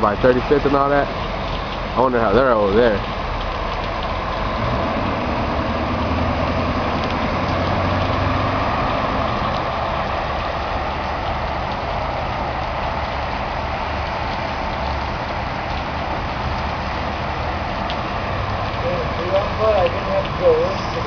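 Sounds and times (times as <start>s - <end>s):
floodwater running down street: 0.0s - 21.0s
heavy rain: 0.0s - 21.0s
low engine hum: 0.0s - 21.0s.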